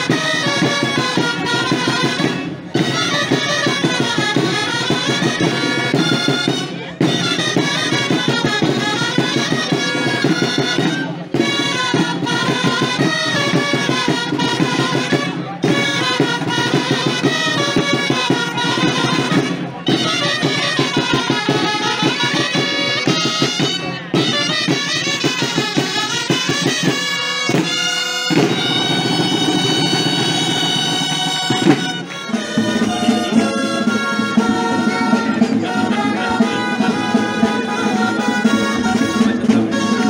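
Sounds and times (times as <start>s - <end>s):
drum beats: 0.0s - 40.0s
shawm band playing dance tune: 0.0s - 40.0s.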